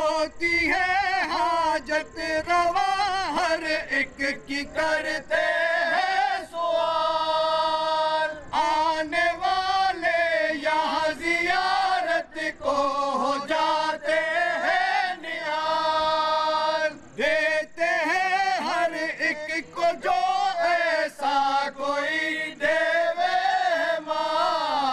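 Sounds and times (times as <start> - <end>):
men chanting together: 0.0 - 24.9.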